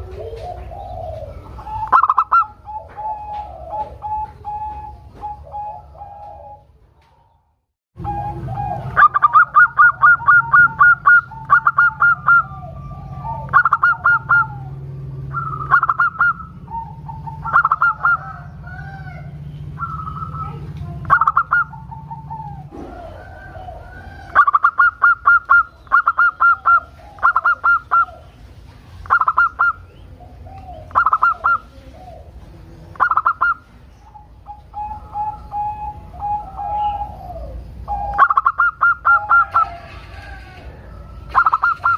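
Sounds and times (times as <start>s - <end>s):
dove cooing song: 0.0s - 41.9s.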